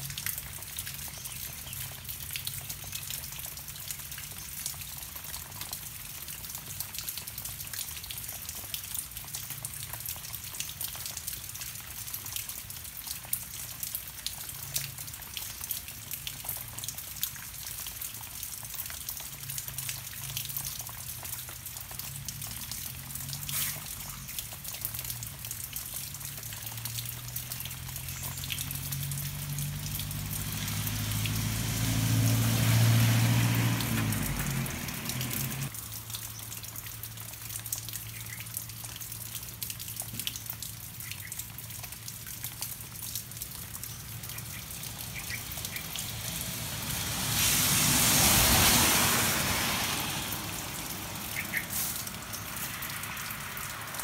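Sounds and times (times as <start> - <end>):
rain falling on foliage: 0.0 - 54.0
water drips and taps: 0.0 - 54.0.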